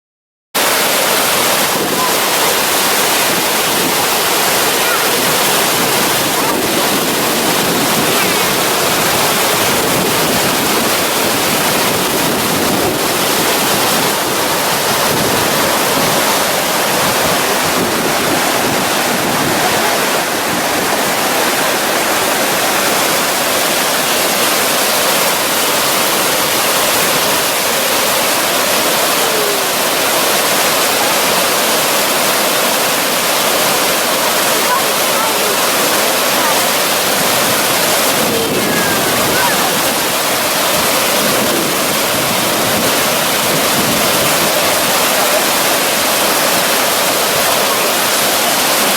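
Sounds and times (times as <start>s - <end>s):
waterfall rushing: 0.6s - 48.9s.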